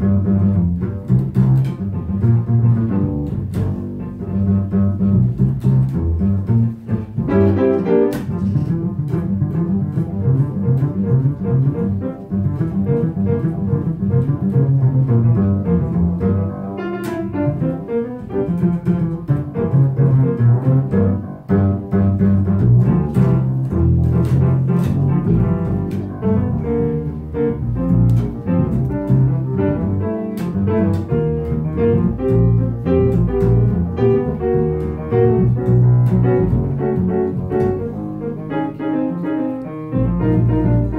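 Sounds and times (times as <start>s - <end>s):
low string instrument: 0.0s - 40.9s
piano: 0.0s - 40.9s.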